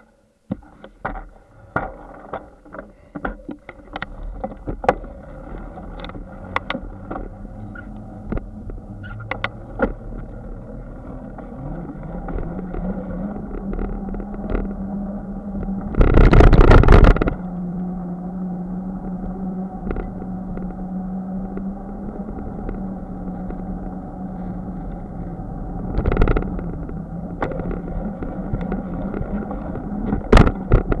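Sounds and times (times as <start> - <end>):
rising hum: 3.8 - 31.0.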